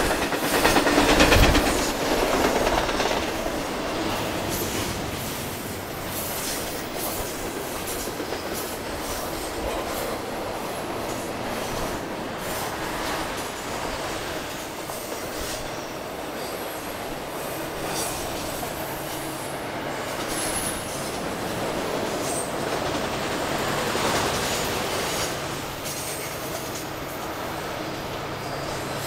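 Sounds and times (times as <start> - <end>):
steel wheels rumbling on rail: 0.0 - 29.0.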